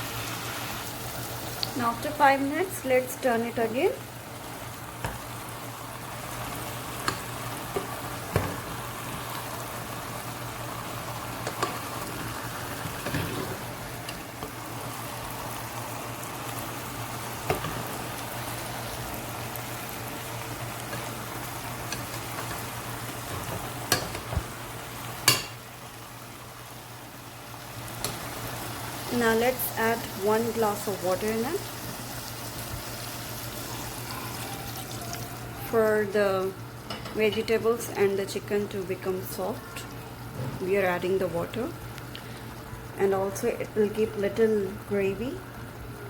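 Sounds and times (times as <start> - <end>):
food sizzling in a pan: 0.0 - 46.0.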